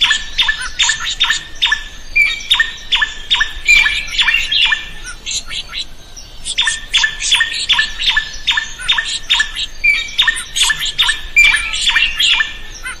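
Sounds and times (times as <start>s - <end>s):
bird singing sharp notes: 0.0s - 13.0s.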